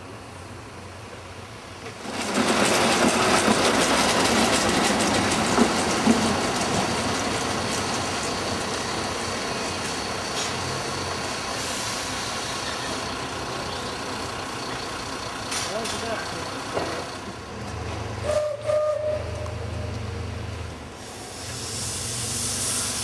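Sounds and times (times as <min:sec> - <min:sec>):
railway wheels clattering over rails: 0:01.1 - 0:23.0.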